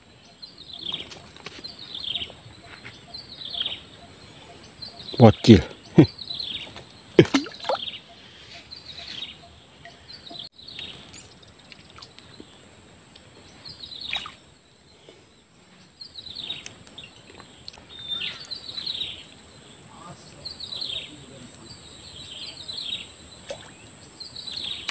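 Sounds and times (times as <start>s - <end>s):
birds calling: 0.0s - 12.6s, 13.2s - 15.4s, 16.0s - 24.9s.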